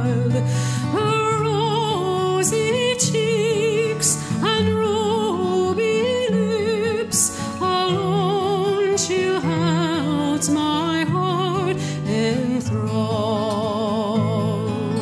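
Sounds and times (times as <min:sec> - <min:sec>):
slow ballad sung by solo voice: 0:00.0 - 0:15.0.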